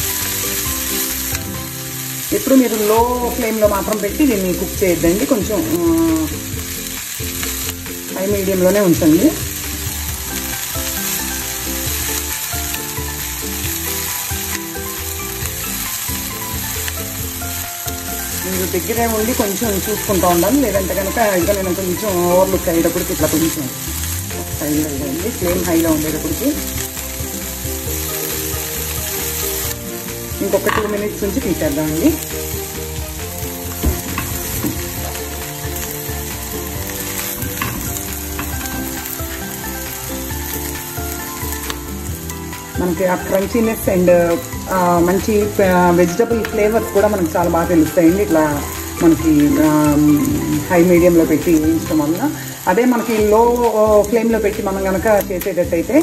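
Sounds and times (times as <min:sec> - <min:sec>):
vegetables sizzling in a pan: 0:00.0 - 0:56.0.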